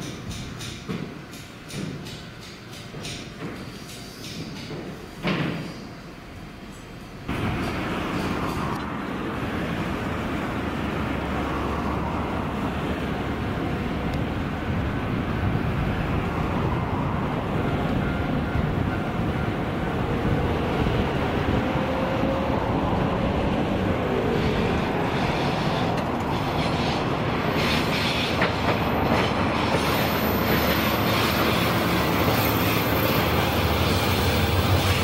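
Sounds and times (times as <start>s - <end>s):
rumble of trains and traffic: 0.0s - 35.0s.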